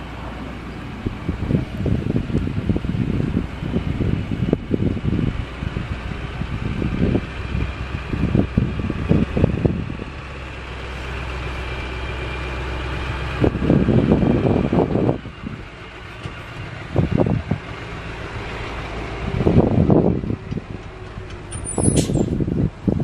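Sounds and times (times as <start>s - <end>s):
rough low rumbling: 0.0s - 23.0s
truck engine running: 0.0s - 23.0s.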